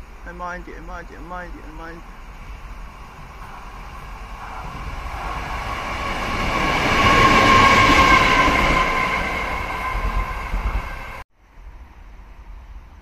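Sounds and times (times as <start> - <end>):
electric locomotive passing: 0.0 - 13.0.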